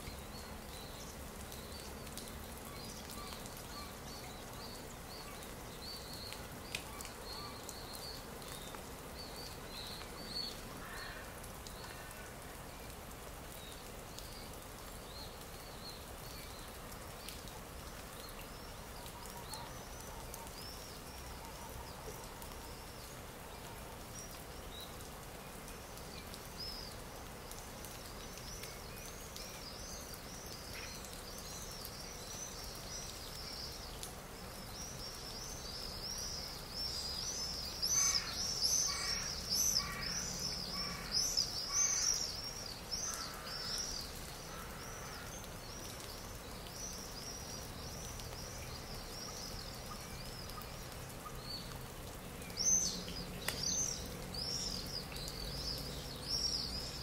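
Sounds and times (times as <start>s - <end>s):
faint steady hiss: 0.0s - 57.0s
small birds chirping: 0.0s - 57.0s.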